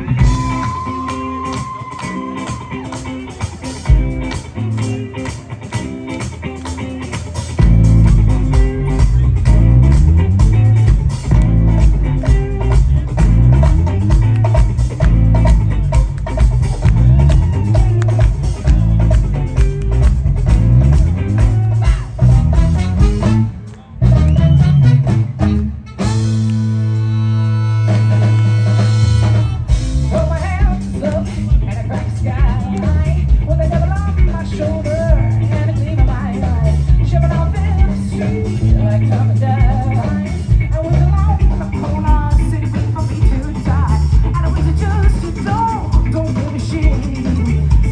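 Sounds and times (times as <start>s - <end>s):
bass: 0.0s - 47.9s
drums: 0.0s - 47.9s
guitar: 0.0s - 47.9s
live band playing instrumental: 0.0s - 47.9s.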